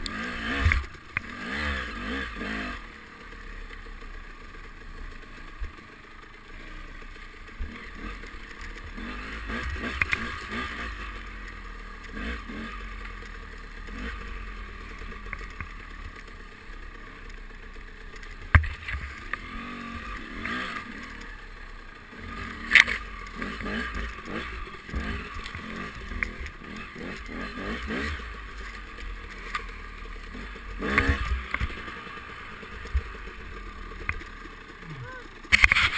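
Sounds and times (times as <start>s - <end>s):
dirt bike engine running: 0.0s - 35.9s.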